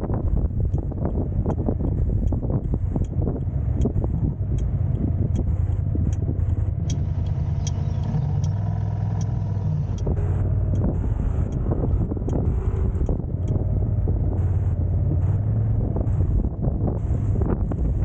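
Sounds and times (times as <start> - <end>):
car engine and road noise: 0.0 - 18.0
light high ticks: 0.6 - 15.5.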